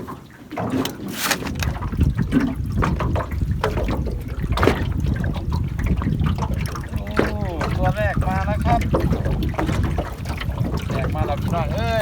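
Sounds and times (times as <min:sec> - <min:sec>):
water splashing and dripping: 0:00.0 - 0:12.0
wind rumbling on microphone: 0:01.4 - 0:12.0.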